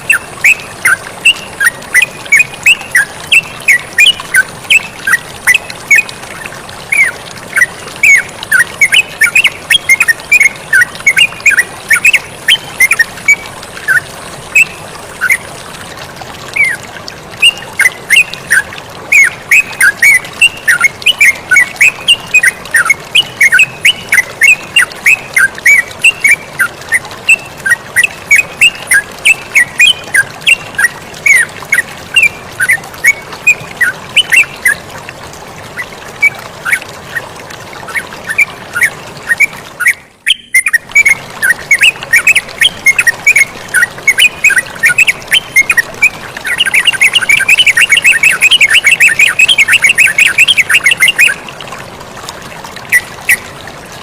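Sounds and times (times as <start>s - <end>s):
bird chirping song: 0.0s - 15.4s, 17.4s - 34.8s, 37.9s - 51.4s
flowing water: 0.0s - 54.0s.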